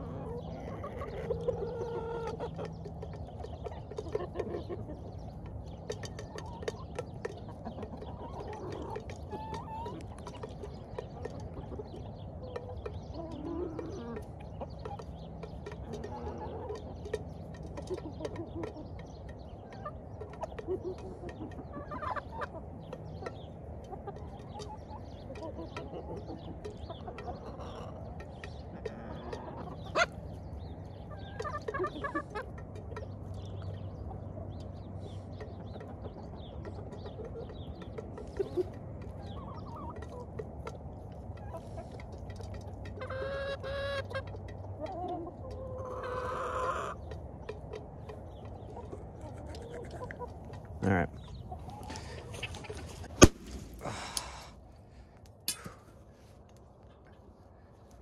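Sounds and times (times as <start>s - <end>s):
chickens clucking softly: 0.0s - 54.1s
chicken calls: 0.0s - 58.0s.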